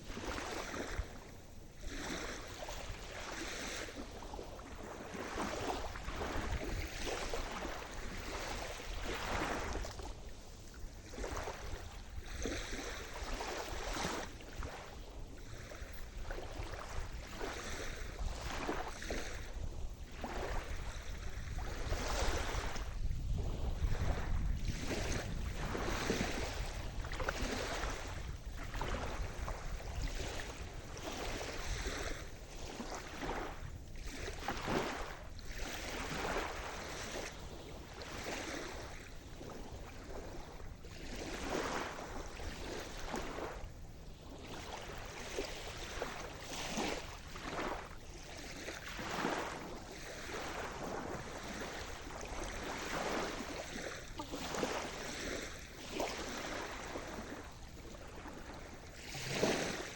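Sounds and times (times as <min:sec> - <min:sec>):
low rumble of surf: 0:00.0 - 0:59.9
waves breaking and sloshing: 0:00.0 - 0:59.9.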